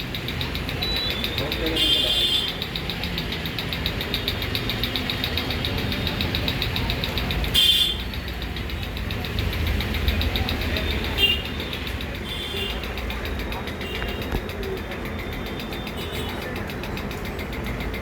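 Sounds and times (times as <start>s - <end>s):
fast high-pitched ticking: 0.0s - 18.0s.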